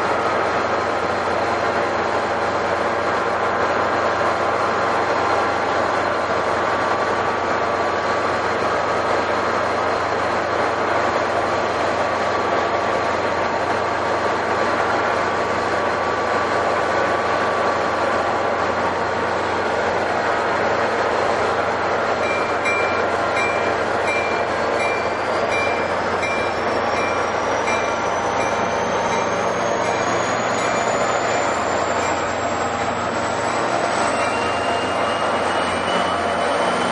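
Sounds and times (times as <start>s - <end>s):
diesel commuter train passing: 0.0s - 36.9s
rail and wheel noise: 0.0s - 36.9s.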